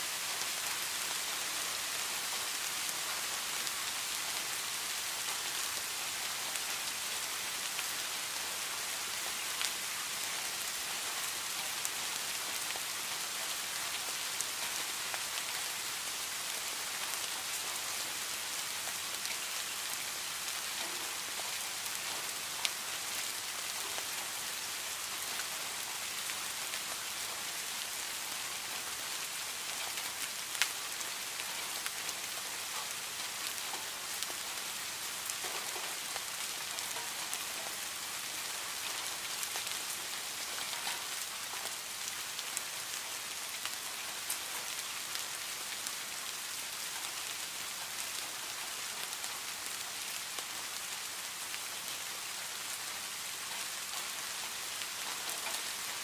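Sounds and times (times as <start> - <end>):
heavy rain on leaves and grass: 0.0 - 56.0.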